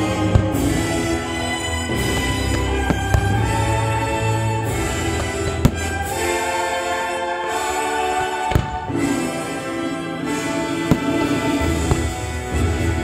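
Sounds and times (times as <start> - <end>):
firework shells bursting: 0.0 - 7.2, 8.1 - 9.6, 10.3 - 12.9
orchestral music: 0.0 - 13.0.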